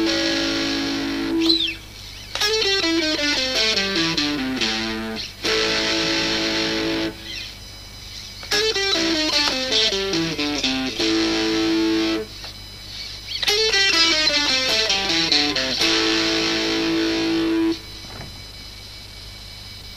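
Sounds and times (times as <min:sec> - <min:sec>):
electric guitar through an amp: 0:00.0 - 0:18.5.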